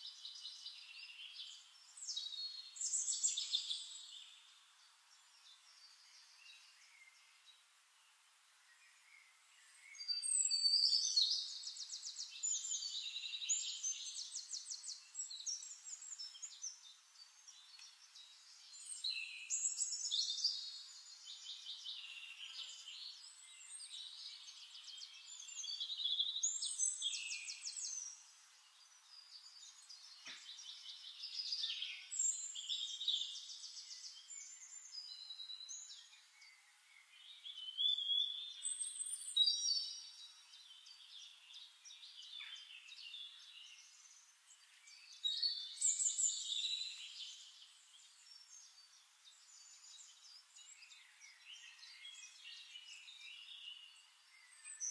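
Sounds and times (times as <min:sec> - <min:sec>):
birds chirping and trilling: 0:00.1 - 0:54.9.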